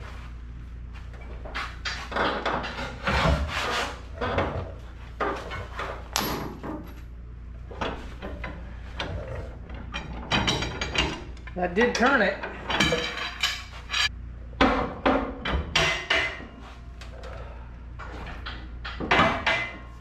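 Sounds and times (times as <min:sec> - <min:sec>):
hand tools clunking and scraping: 0:01.2 - 0:07.0, 0:07.6 - 0:20.0.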